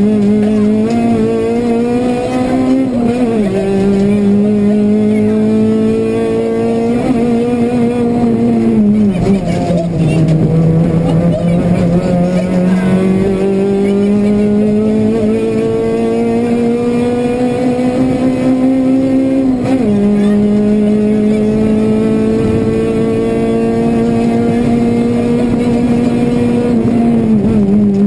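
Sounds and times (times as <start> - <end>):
car engine revving hard: 0.0 - 28.0
road and tyre noise: 0.0 - 28.0.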